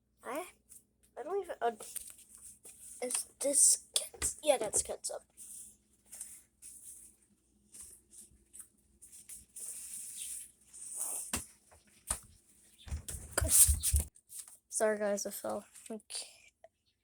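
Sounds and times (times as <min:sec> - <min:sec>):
rustling and handling noises: 0:00.6 - 0:14.7.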